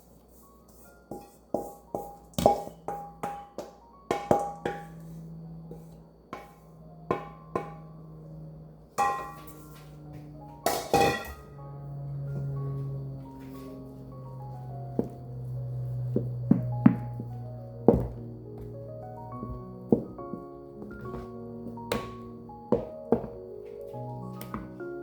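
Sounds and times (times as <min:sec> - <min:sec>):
slow instrumental music: 0:00.2 - 0:25.0.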